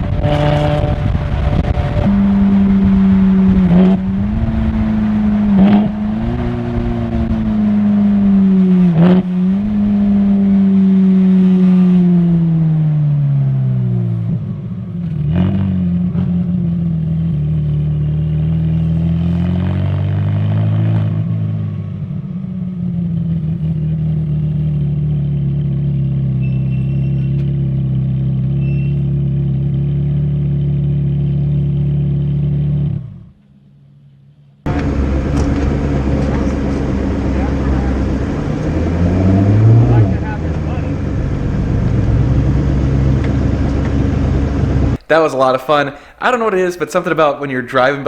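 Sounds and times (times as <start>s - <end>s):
car engine revving: 0.0s - 45.1s
rough engine and road noise: 0.0s - 45.1s.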